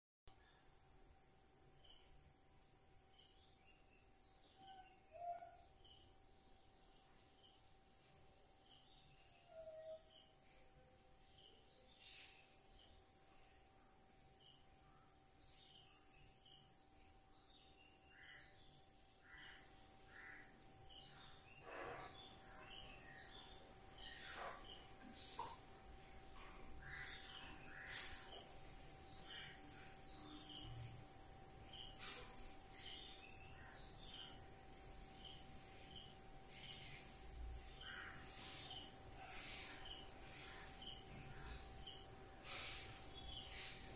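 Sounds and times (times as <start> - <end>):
insects trilling: 0.4 - 43.9.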